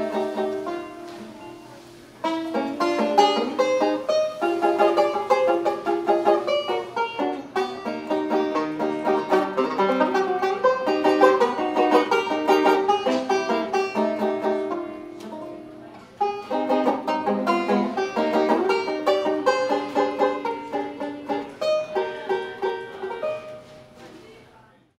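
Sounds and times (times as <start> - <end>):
banjo picked notes: 0.0 - 24.0.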